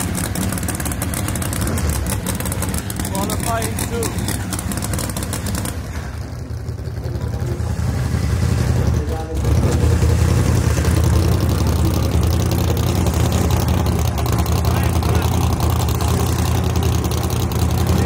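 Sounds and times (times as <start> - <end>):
race car engine rumbling: 0.0 - 18.0.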